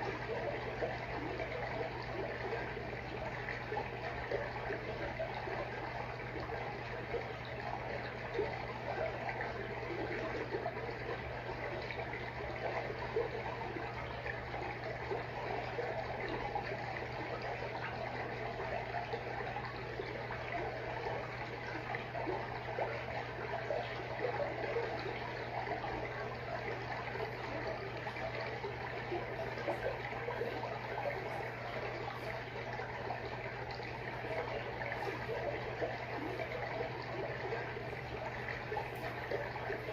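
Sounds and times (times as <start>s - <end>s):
aquarium water trickling and bubbling: 0.0s - 39.9s
steady low hum: 0.0s - 39.9s.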